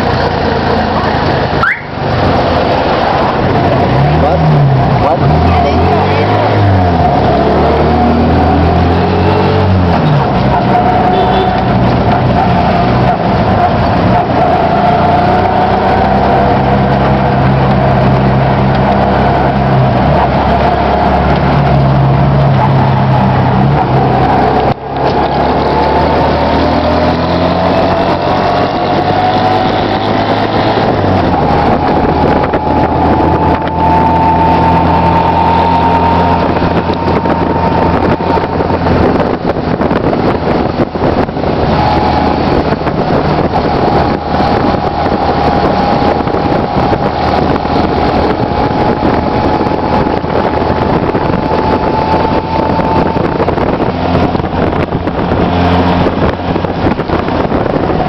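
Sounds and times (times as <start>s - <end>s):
rising engine whine: 0.0s - 58.0s.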